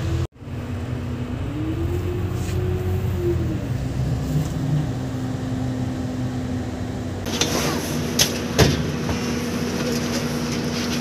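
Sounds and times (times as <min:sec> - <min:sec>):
bus engine rumbling and whining: 0:00.0 - 0:11.0.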